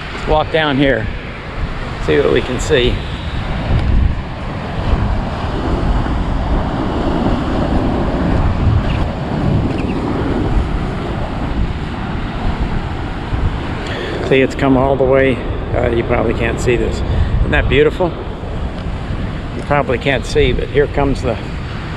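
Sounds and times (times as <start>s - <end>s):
ocean waves breaking: 0.0s - 21.9s
wind on microphone: 0.0s - 21.9s.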